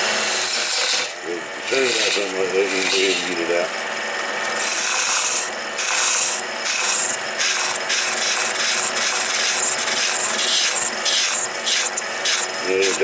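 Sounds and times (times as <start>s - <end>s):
lathe tool cutting wood hiss: 0.0s - 3.5s, 4.5s - 13.0s
lathe running hum: 0.0s - 13.0s.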